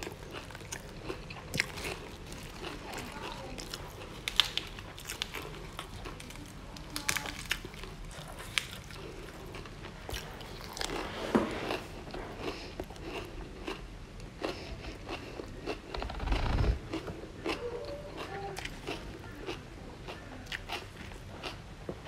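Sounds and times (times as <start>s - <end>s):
chewing crisp lettuce: 0.0s - 21.7s.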